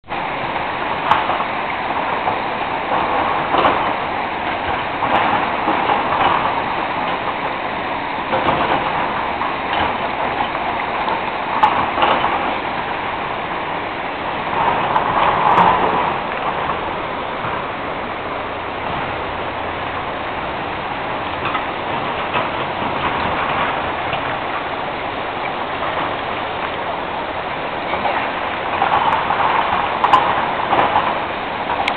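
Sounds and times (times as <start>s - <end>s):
river water rushing: 0.0s - 31.9s.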